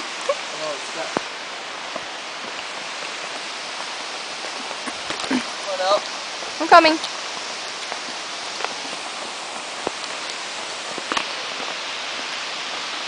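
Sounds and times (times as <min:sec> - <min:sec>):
rushing water: 0:00.0 - 0:13.0
footsteps on stone steps: 0:01.1 - 0:13.0.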